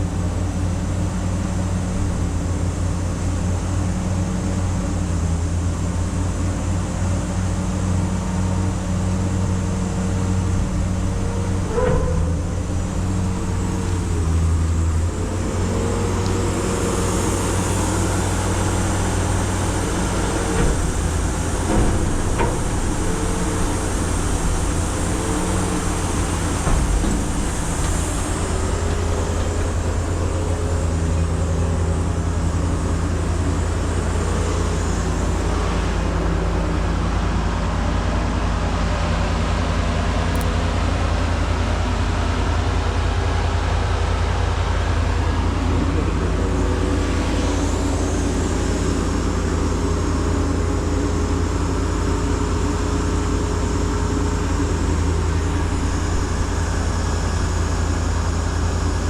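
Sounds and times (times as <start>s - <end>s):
heavy diesel engine humming: 0.0s - 59.0s.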